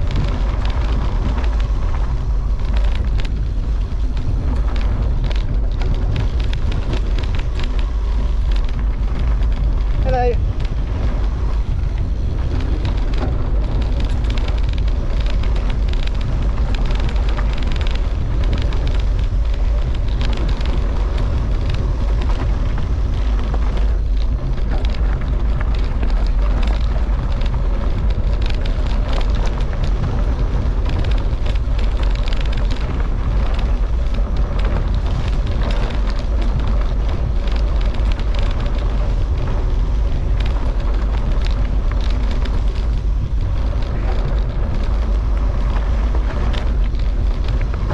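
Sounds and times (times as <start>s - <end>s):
bike clattering and rattling: 0.0s - 47.9s
tyres rumbling on gravel: 0.0s - 47.9s
wind buffeting microphone: 0.0s - 47.9s.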